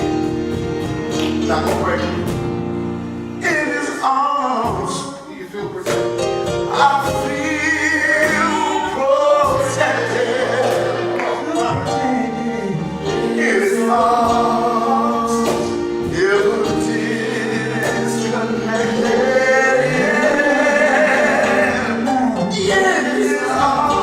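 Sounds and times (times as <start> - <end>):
instrumental accompaniment: 0.0 - 24.0
voices singing gospel: 3.2 - 24.0.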